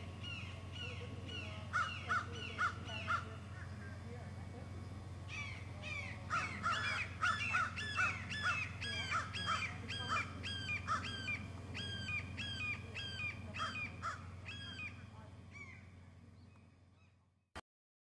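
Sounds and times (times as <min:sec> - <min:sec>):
bird harsh cawing calls: 0:00.0 - 0:03.8, 0:05.1 - 0:17.2
low steady hum: 0:00.0 - 0:17.6.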